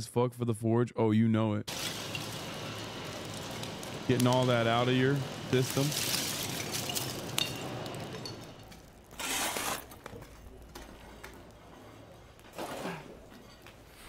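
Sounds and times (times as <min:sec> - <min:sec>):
furnace crackling and clinking: 0:01.7 - 0:14.0.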